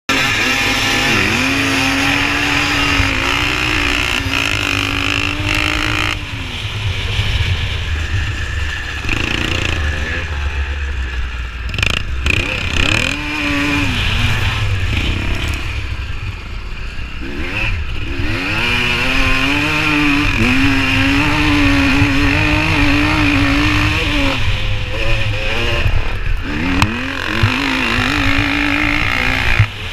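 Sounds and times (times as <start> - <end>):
motocross bike engine racing: 0.1 - 29.9.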